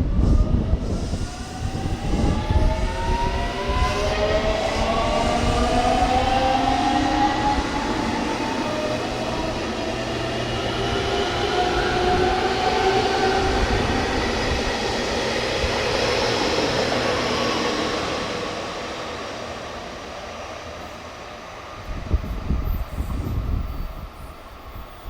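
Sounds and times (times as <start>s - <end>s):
train wheels on rails: 0.1s - 25.0s.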